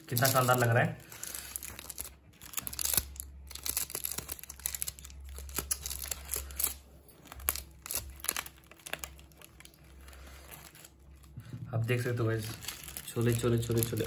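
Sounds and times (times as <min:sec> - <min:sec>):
plastic pouch crinkling: 0:00.0 - 0:14.0.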